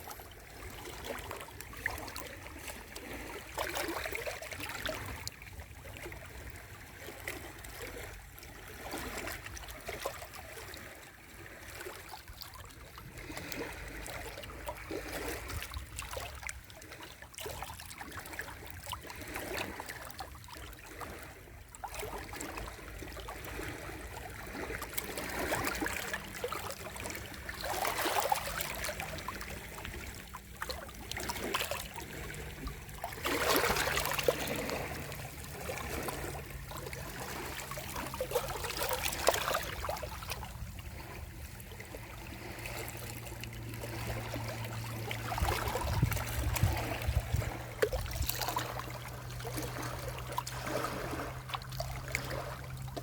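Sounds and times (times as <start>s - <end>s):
small waves lapping: 0.0s - 53.0s.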